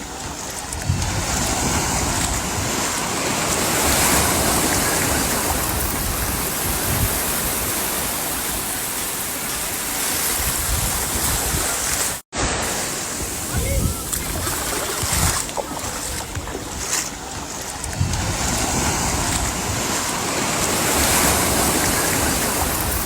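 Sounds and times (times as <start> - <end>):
surf washing on beach: 0.0 - 23.0
wind rumbling on microphone: 0.0 - 23.0.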